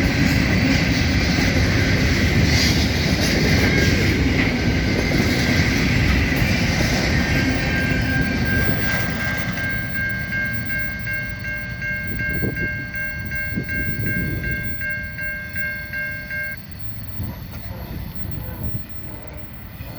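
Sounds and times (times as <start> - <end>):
crossing warning bell ringing: 0.0 - 19.9.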